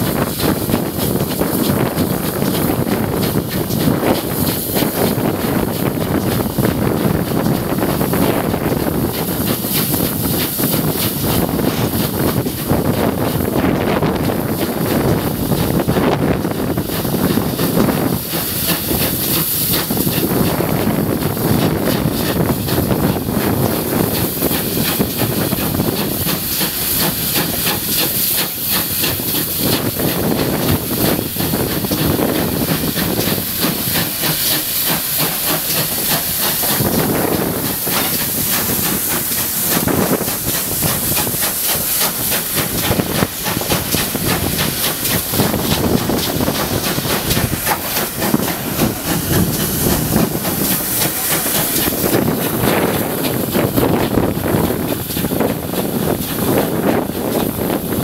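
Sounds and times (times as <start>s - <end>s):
steam locomotive hiss: 0.0s - 58.0s
train running: 0.0s - 58.0s.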